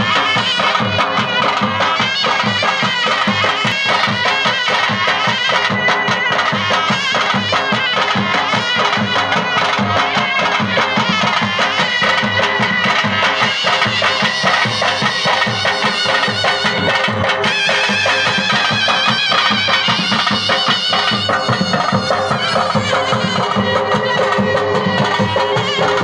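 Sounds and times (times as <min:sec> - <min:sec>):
reed pipe melody: 0:00.0 - 0:26.0
steady drum beat: 0:00.0 - 0:26.0.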